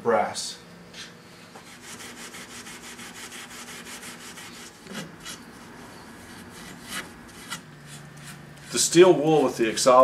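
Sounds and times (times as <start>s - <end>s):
steel wool scrubbing wood: 1.7s - 10.0s.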